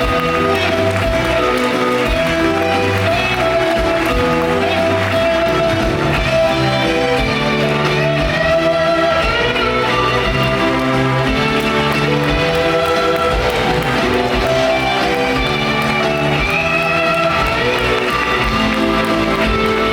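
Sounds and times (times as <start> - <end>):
instrumental band music: 0.0 - 19.9.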